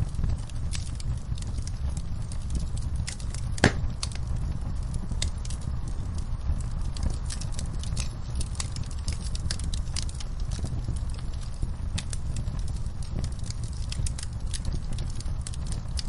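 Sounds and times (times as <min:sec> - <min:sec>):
low rumble of fire: 0:00.0 - 0:16.0
wood crackling and popping: 0:00.0 - 0:16.0.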